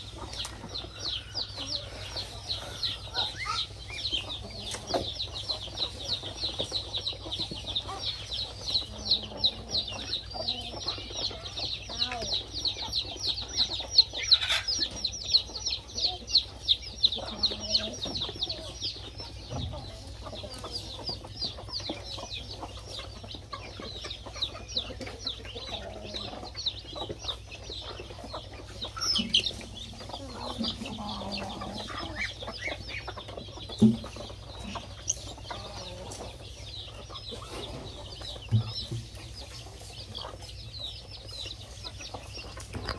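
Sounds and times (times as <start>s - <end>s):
chicks peeping: 0.0s - 42.9s
hens clucking: 0.0s - 42.9s.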